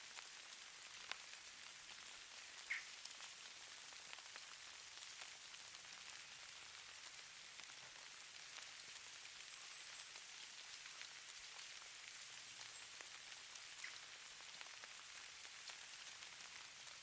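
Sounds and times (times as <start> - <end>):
snow falling hiss: 0.0 - 17.0
snowflakes ticking: 0.0 - 17.0.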